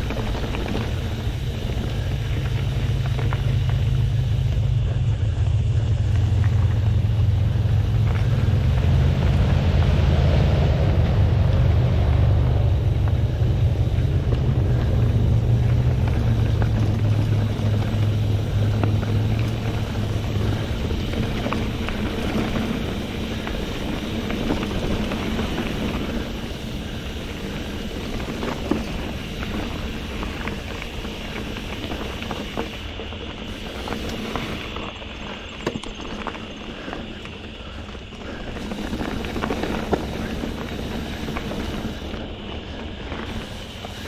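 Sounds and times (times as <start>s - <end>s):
wind buffeting microphone: 0.0s - 35.6s
bike clicks and rattles: 0.0s - 44.0s
bike tyres rolling on dirt: 0.0s - 44.0s.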